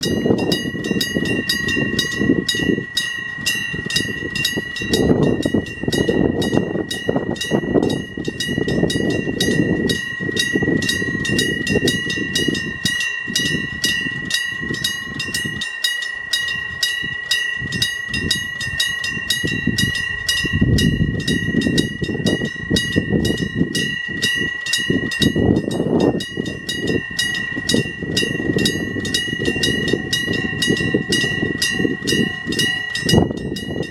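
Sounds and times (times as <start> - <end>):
level crossing bell ringing: 0.0 - 33.9
train rumbling over crossing: 0.0 - 33.9.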